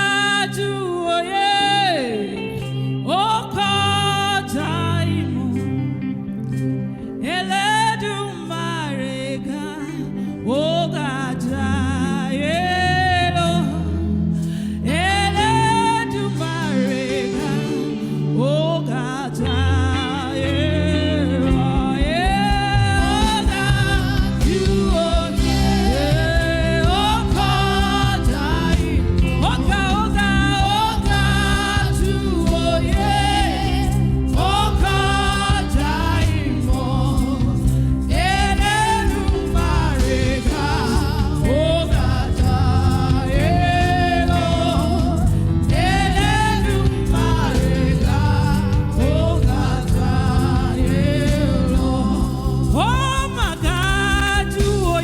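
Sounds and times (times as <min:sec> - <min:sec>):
solo voice singing gospel: 0:00.0 - 0:55.0.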